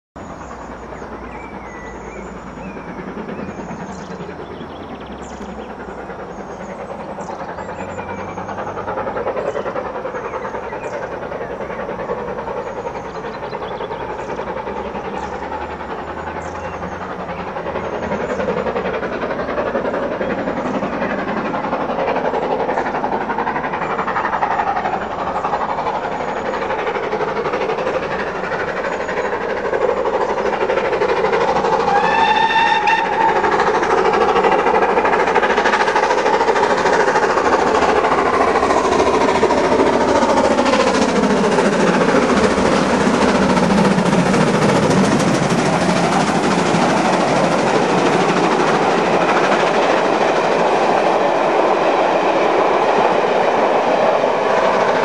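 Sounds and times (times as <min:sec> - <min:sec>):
steam locomotive accelerating: 0:00.2 - 0:55.0.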